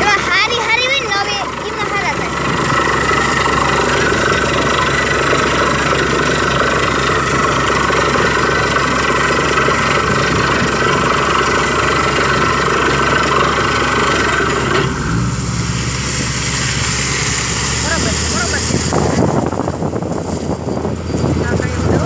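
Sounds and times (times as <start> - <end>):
drilling rig running: 0.0 - 22.0
low engine hum: 0.0 - 22.0.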